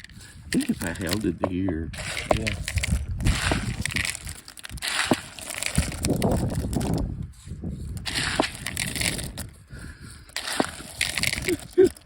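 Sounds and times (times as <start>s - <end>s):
beans crushed by hand: 0.0s - 12.0s.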